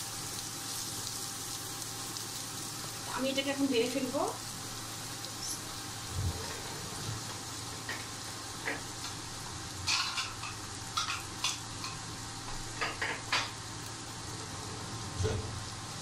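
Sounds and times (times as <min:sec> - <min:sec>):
shrimp sizzling in a frying pan: 0:00.0 - 0:16.0.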